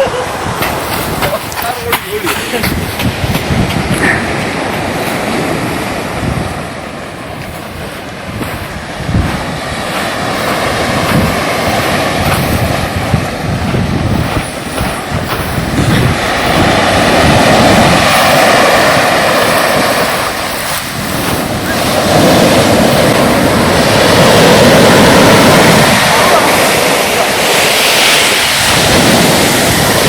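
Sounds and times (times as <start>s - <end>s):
sea waves washing in: 0.0s - 30.0s
wind buffeting microphone: 0.0s - 30.0s.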